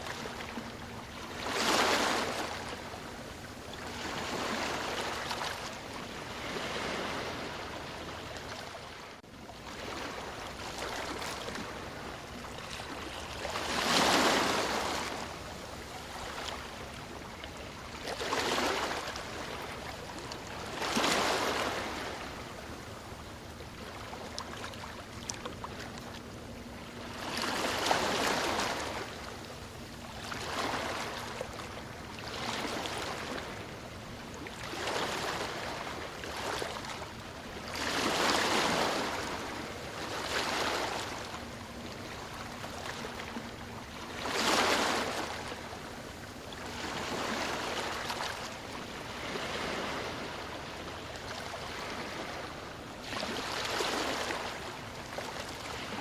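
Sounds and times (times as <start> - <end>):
ocean waves breaking on shore: 0.0 - 56.0
surf hiss: 9.8 - 56.0.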